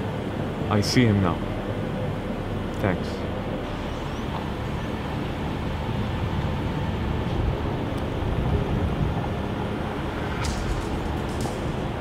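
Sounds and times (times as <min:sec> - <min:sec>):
deep low outdoor rumble: 0:00.0 - 0:12.0.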